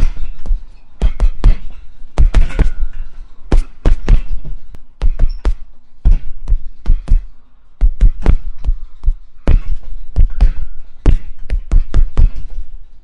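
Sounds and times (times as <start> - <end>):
fists punching a heavy bag: 0.0 - 12.8.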